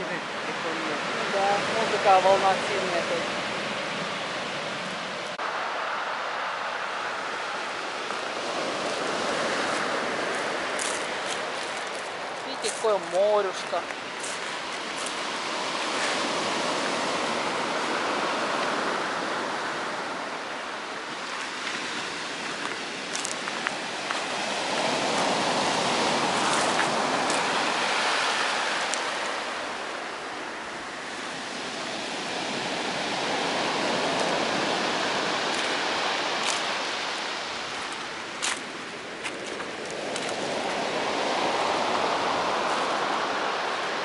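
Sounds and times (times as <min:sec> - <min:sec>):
waves breaking on pebble beach: 0:00.0 - 0:44.0.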